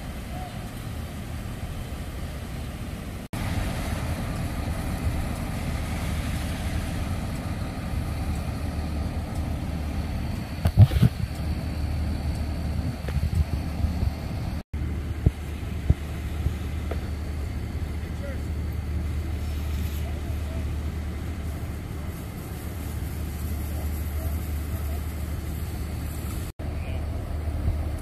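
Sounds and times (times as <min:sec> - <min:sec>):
vehicle engines rumbling: 0:00.0 - 0:28.0.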